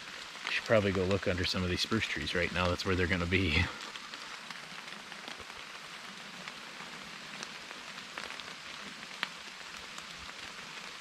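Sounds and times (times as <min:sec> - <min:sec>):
rain falling: 0:00.0 - 0:11.0
raindrops ticking: 0:00.0 - 0:11.0.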